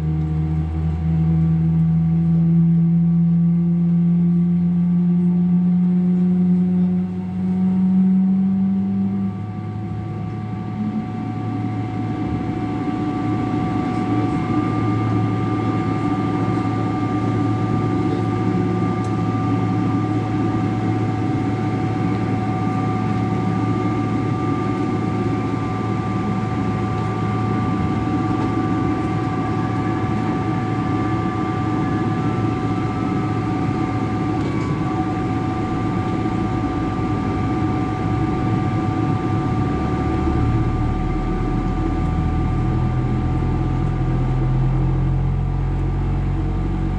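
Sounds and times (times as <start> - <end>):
airliner cabin hum: 0.0 - 46.9
high whining engine tones: 0.0 - 46.9
loud low hum: 0.0 - 46.9.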